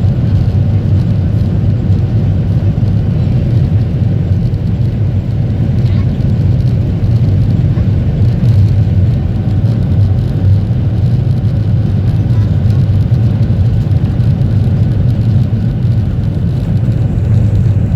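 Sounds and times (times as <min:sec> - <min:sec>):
jet engines roaring at takeoff: 0:00.0 - 0:17.9.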